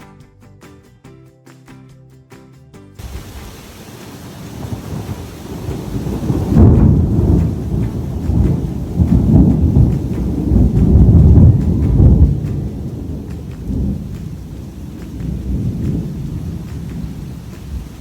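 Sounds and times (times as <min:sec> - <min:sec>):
rain falling steadily: 0:03.0 - 0:18.0
thunder rumbling: 0:03.0 - 0:18.0.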